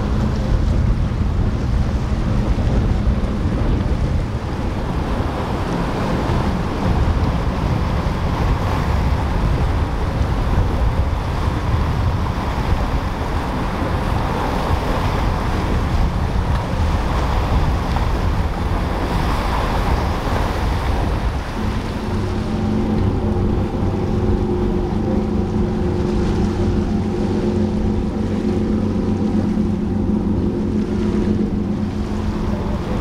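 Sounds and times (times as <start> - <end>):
low engine rumble: 0.0 - 33.0
waves and hull spray rushing: 0.0 - 33.0
wind buffeting microphone: 0.0 - 33.0.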